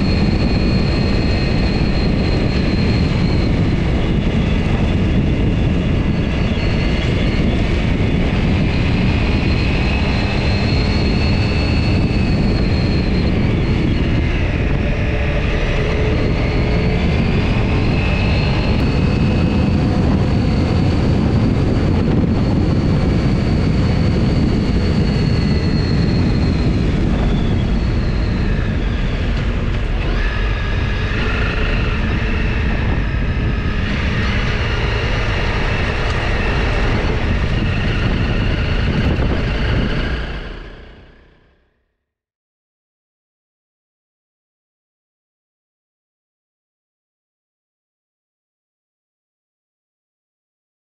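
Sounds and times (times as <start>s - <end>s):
wind rush: 0.0s - 41.6s.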